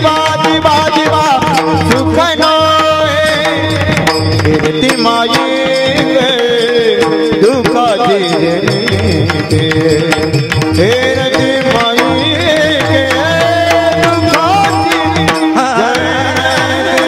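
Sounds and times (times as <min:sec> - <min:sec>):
barrel drum steady rhythm: 0:00.0 - 0:17.0.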